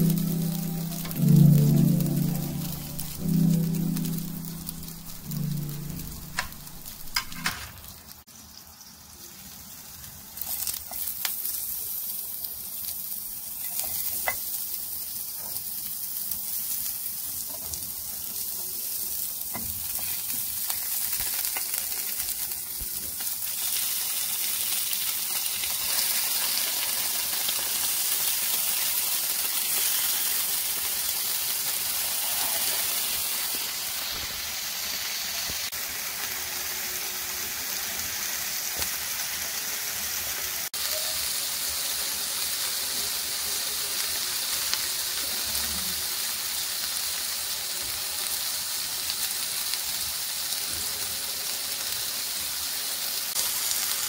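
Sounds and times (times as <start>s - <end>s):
onions sizzling in hot oil: 0.0s - 54.0s.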